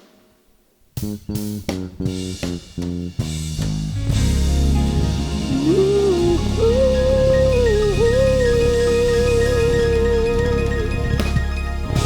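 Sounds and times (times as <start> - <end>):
live soul band music: 1.0 - 12.0.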